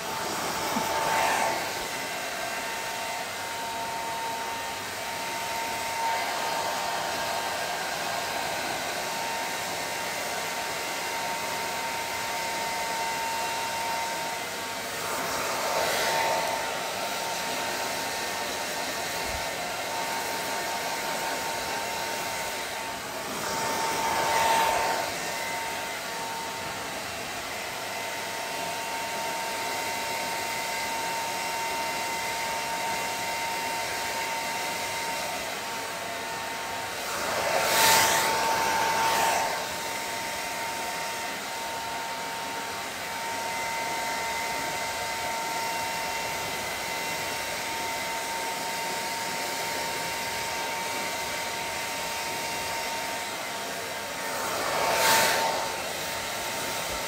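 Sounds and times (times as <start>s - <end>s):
hair dryer whining: 0.0s - 57.0s.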